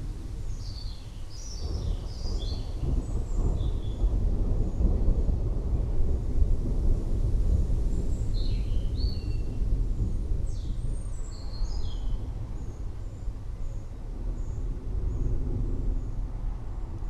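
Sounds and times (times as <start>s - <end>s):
distant thunder rumble: 0.0s - 17.0s.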